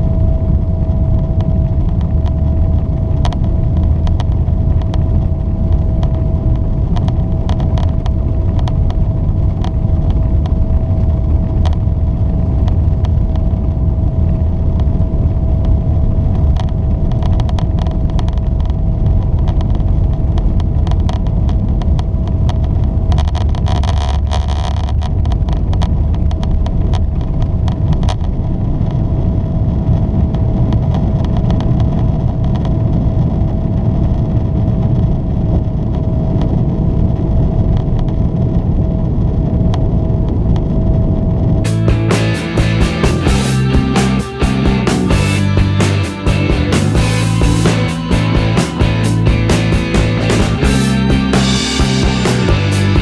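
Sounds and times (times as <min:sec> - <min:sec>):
jet engines rumbling with whine: 0:00.0 - 0:53.0.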